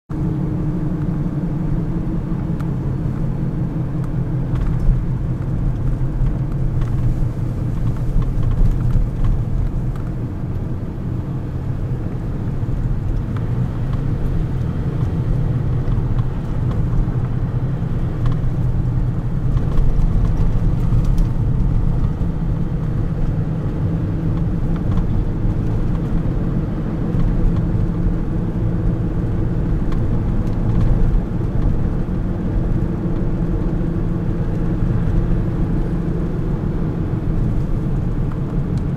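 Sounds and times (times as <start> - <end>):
car engine and road noise: 0.1 - 38.9.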